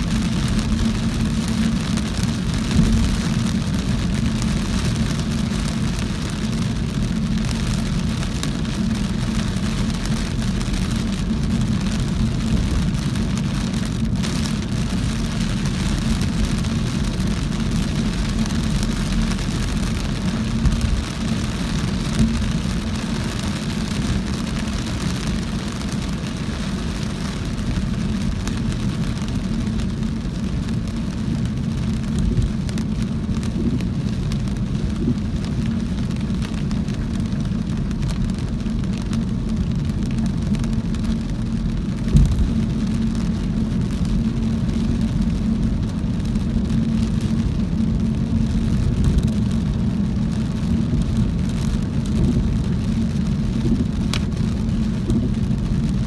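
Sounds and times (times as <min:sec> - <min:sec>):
car tyres on wet road: 0:00.0 - 0:56.0
heavy rain on car: 0:00.0 - 0:56.0.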